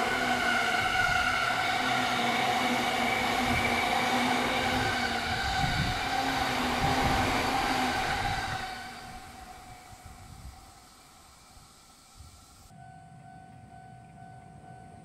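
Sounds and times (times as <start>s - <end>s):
train running on rails: 0.0s - 15.0s.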